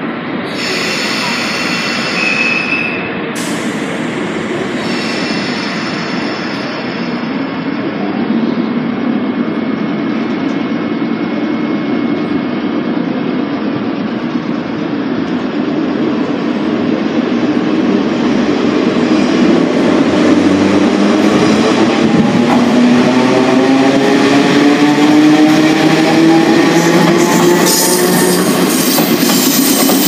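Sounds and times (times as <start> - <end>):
electric train motors and wheels rumbling: 0.0 - 30.0.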